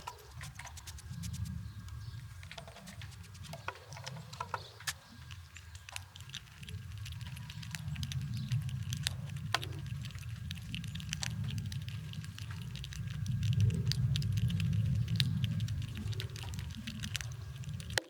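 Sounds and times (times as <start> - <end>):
squirrels cracking nuts: 0.0 - 18.0
steady low rumble: 0.0 - 18.0.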